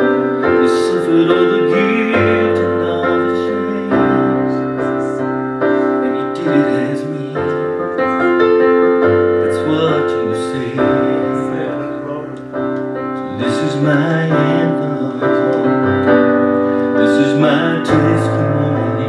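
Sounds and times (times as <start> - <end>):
person singing gospel song: 0.0 - 8.4, 9.4 - 12.4, 13.2 - 19.0
keyboard playing slow chords: 0.0 - 19.0.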